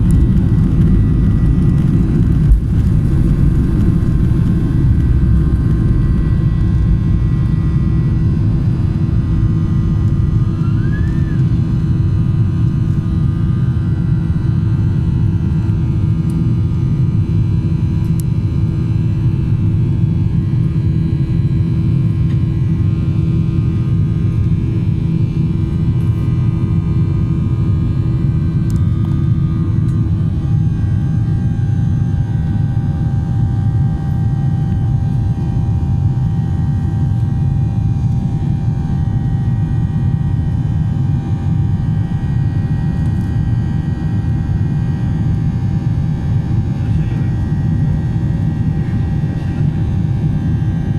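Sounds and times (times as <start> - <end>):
high engine whine: 0.0 - 50.9
jet engines roaring at takeoff: 0.0 - 50.9.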